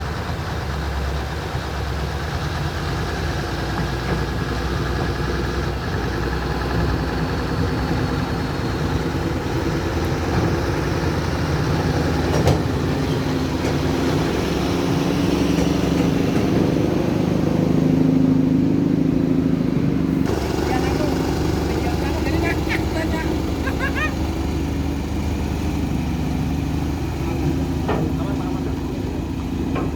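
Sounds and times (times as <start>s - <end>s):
heavy truck engine running: 0.0s - 29.9s.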